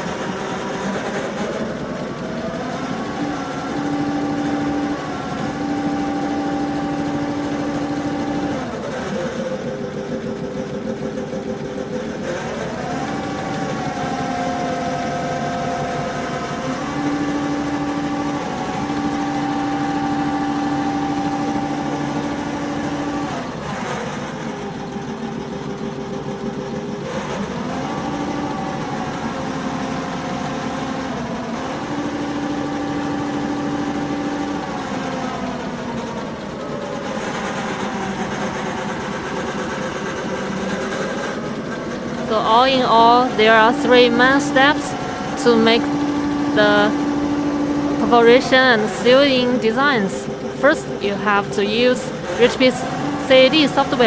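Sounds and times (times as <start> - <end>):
sewing machine motor hum: 0.0 - 54.0.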